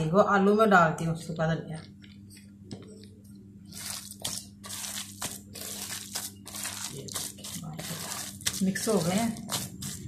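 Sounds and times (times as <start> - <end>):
hands squishing food mixture: 1.8 - 10.0.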